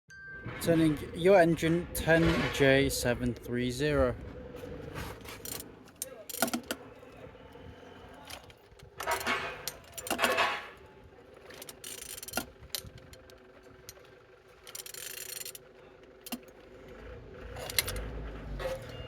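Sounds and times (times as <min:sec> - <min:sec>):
engine turned by hand rubbing clicking: 0:00.5 - 0:19.0.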